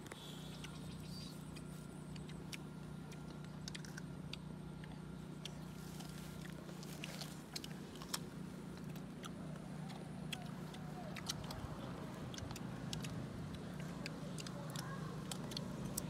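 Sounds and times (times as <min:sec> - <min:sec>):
crisp biting and chewing: 0:00.0 - 0:16.0
steady low hum: 0:00.0 - 0:16.0.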